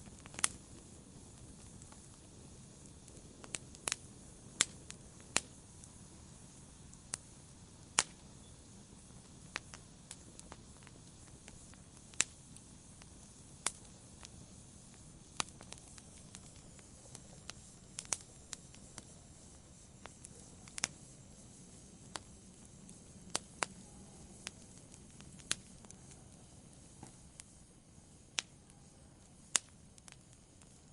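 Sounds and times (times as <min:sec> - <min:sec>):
burning wood popping and snapping: 0:00.0 - 0:27.6, 0:28.3 - 0:28.6, 0:29.2 - 0:30.9
low hiss of fire: 0:00.0 - 0:30.9.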